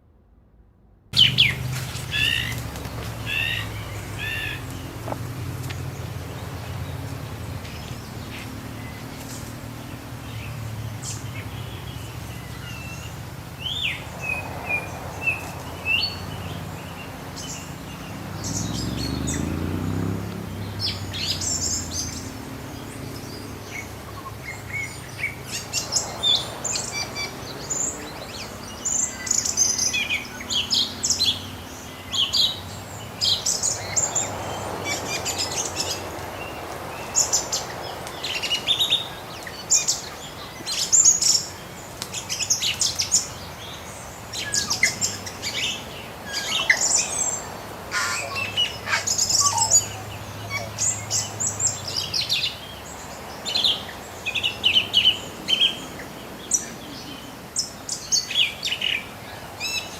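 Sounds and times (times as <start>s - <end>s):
low engine hum: 0.0s - 59.6s
small birds chirping: 1.2s - 59.9s.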